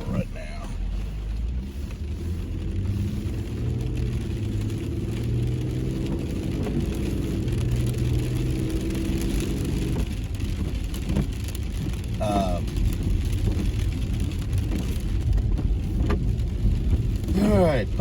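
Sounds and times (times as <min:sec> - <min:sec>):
car engine humming: 0:00.0 - 0:18.0
tyre and road noise: 0:00.0 - 0:18.0.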